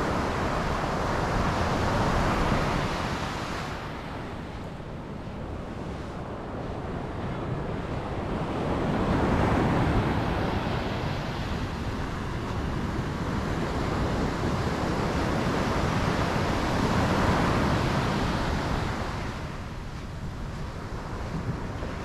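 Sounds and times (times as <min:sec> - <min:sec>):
surf washing up beach: 0:00.0 - 0:22.0.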